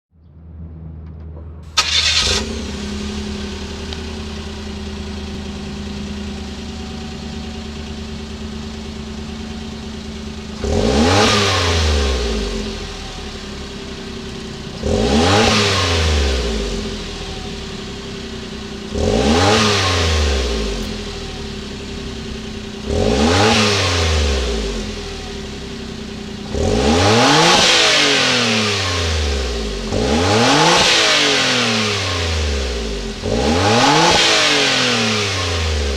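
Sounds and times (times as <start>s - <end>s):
car engine idling and revving: 1.1s - 35.9s.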